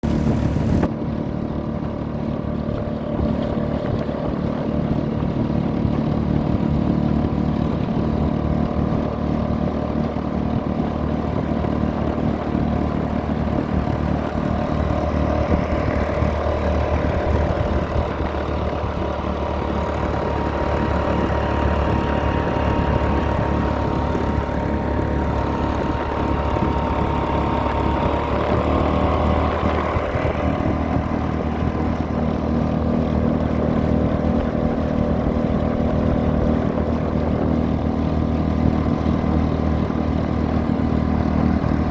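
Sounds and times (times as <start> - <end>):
small boat engine running: 0.0 - 41.9.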